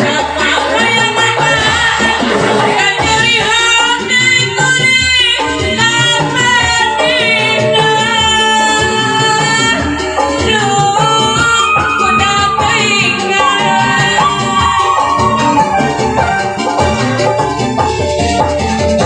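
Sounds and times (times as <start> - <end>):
woman singing into a microphone: 0.0 - 16.4
amplified backing music: 0.0 - 19.0.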